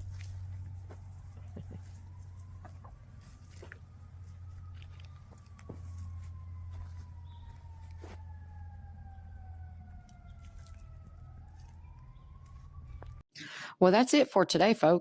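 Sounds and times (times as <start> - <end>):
faint siren wailing: 0.0 - 13.2.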